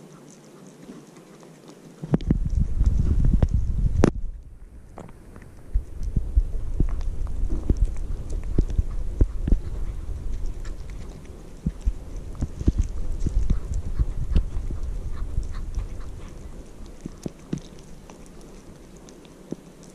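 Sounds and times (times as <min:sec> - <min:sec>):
kitten chewing food: 0:00.0 - 0:19.9.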